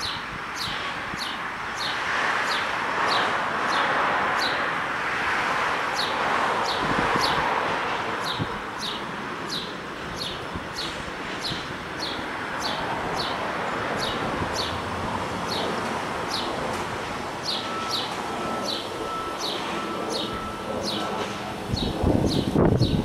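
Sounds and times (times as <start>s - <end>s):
distant traffic: 0.0s - 23.0s
wind in leaves: 0.0s - 23.0s.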